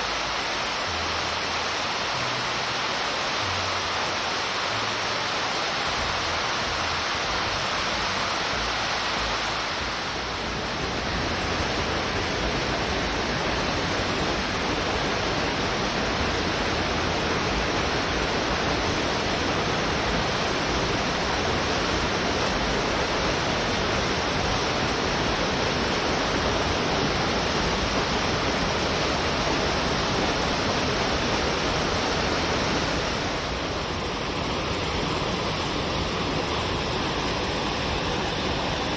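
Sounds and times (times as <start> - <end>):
waterfall rushing onto rocks: 0.0 - 38.9.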